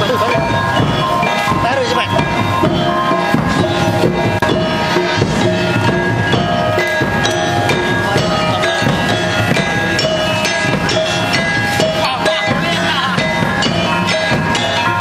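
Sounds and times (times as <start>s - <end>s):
drum strokes: 0.0s - 15.0s
gong tones: 0.0s - 15.0s
metallophone tones: 0.0s - 15.0s.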